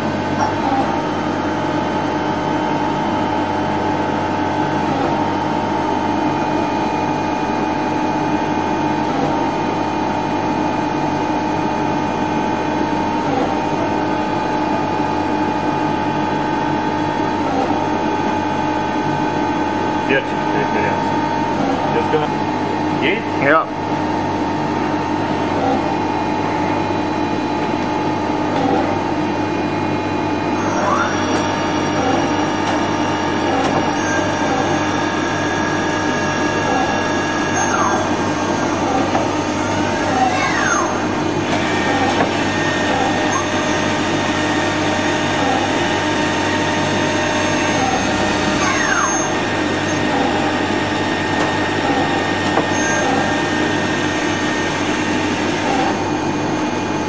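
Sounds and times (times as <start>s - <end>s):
lathe machining hum and whine: 0.0s - 57.0s.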